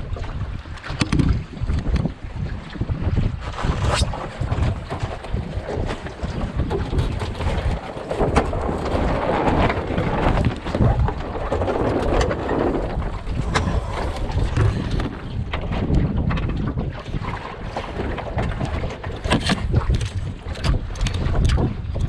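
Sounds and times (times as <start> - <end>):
boat knocks and taps: 0.0 - 2.9, 4.4 - 22.0
water rushing along boat hull: 0.0 - 22.0
wind buffeting microphone: 0.0 - 22.0.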